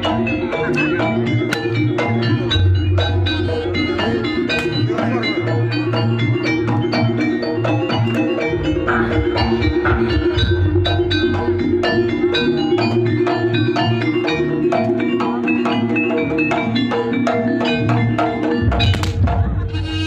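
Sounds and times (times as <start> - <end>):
drums: 0.0 - 20.0
metallophones struck: 0.0 - 20.0.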